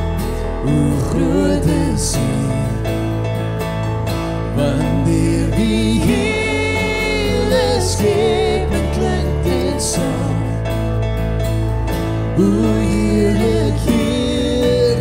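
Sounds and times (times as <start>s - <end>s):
acoustic guitar: 0.0s - 15.0s
keyboard: 0.0s - 15.0s
man and woman singing a hymn: 0.4s - 3.2s, 4.5s - 11.0s, 12.1s - 15.0s.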